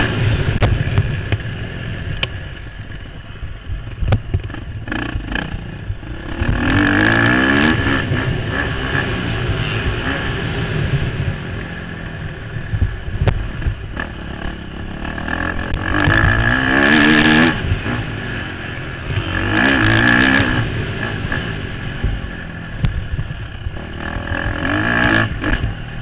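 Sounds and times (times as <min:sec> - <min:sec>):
motorbike engine revving: 0:00.0 - 0:02.3, 0:04.0 - 0:26.0
wind rumbling on microphone: 0:00.0 - 0:26.0.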